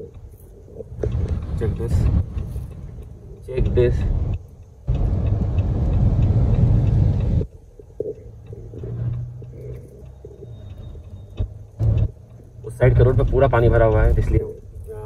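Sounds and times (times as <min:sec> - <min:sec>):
car rolling on wet road: 0:00.1 - 0:15.0.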